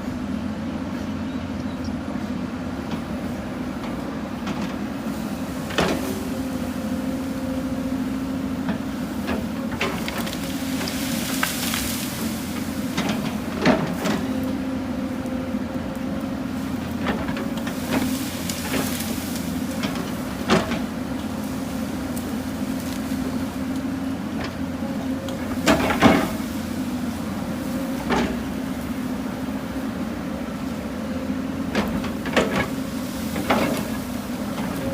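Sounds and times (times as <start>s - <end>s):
excavator engine humming: 0.0s - 34.9s.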